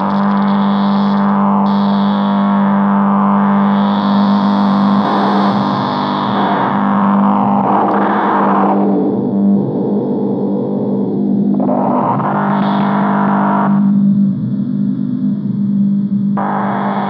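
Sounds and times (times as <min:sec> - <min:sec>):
electronic buzzing drone: 0:00.0 - 0:17.0.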